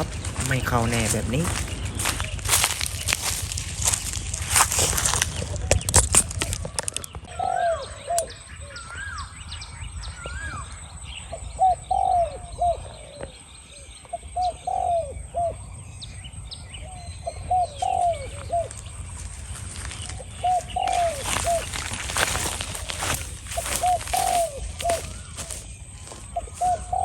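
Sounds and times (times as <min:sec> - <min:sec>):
bird chirping: 0:00.0 - 0:27.0
doves cooing: 0:00.0 - 0:27.0.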